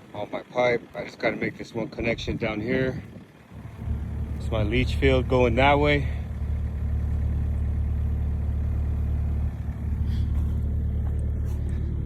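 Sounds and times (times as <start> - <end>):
excavator engine idling: 0.0 - 12.0.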